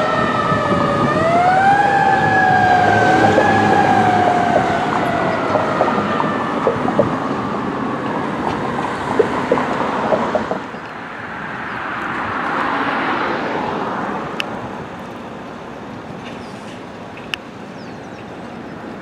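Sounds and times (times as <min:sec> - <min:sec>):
fire engines driving past: 0:00.0 - 0:19.0.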